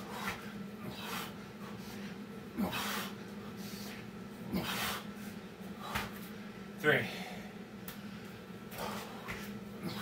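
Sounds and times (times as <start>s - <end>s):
man breathing hard: 0.0s - 10.0s
steady low hum: 0.0s - 10.0s.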